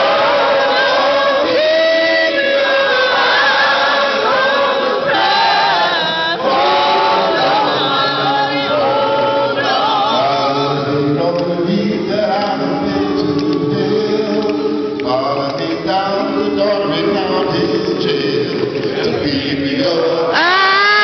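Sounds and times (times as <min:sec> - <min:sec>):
audience singing along: 0:00.0 - 0:20.8
group singing without instruments: 0:00.0 - 0:21.0.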